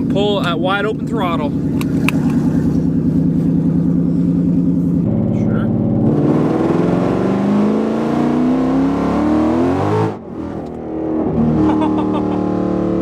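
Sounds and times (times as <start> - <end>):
car engine at full throttle: 0.0 - 13.0.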